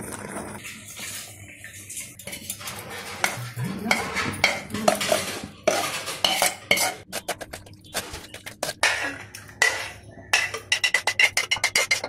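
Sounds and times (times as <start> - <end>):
metal spoon scraping a pan: 2.2 - 12.0.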